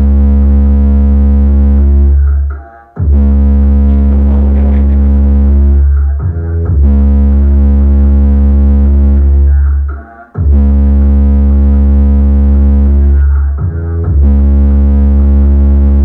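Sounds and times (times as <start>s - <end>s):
bass-heavy electronic music: 0.0s - 16.0s.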